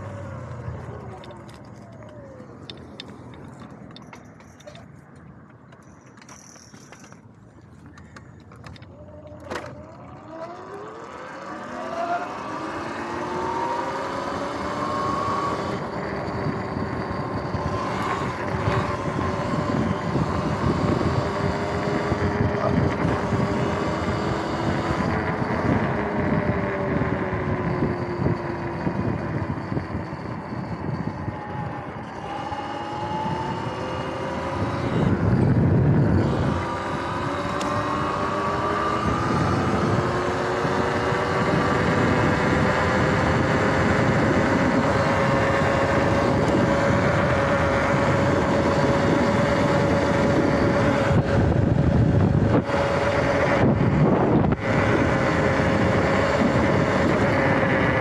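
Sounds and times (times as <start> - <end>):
electric motor whine: 0.0 - 4.2, 8.0 - 58.0
wind and tyre noise: 0.0 - 58.0.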